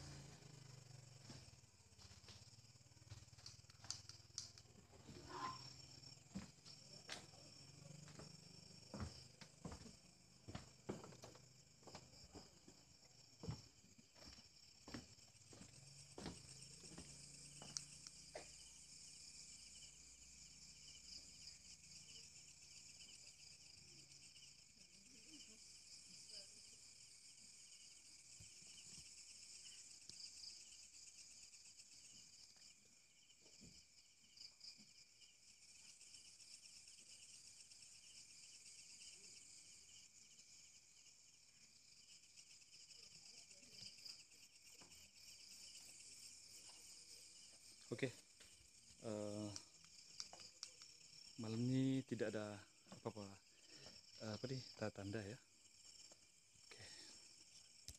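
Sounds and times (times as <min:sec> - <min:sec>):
crickets and insects trilling: 0:00.0 - 0:57.9.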